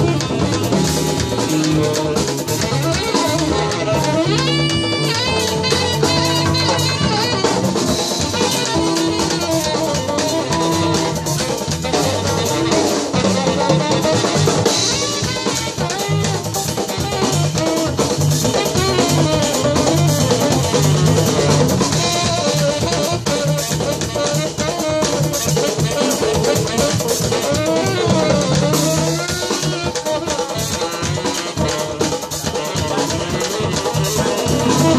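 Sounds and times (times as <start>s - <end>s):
hand and stick drums: 0.0s - 34.9s
jazz band playing: 0.0s - 34.9s.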